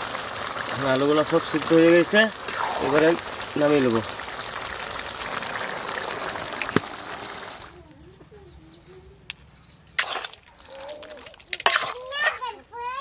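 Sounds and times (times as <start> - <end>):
pot boiling hard: 0.0 - 7.8, 9.8 - 12.6.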